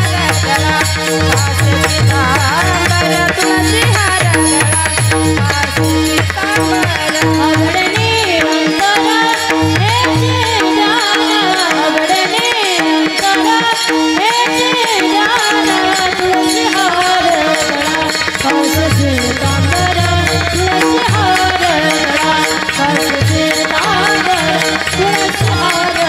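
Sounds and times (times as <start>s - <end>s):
woman singing devotional melody: 0.0s - 26.0s.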